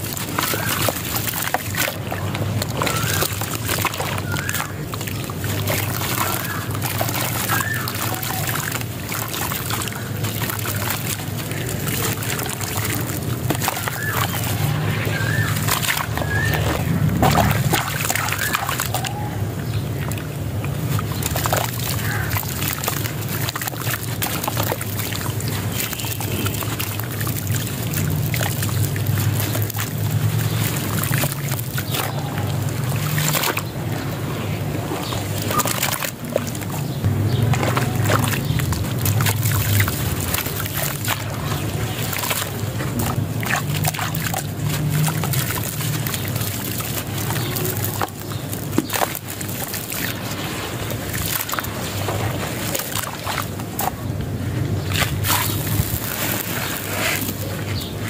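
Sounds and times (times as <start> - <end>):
water sloshing and splashing: 0.0 - 58.0
wet sand crumbling into water: 0.0 - 58.0.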